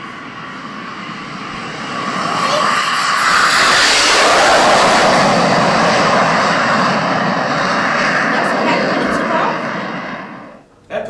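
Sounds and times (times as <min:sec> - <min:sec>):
jet engines passing low: 0:00.0 - 0:11.0.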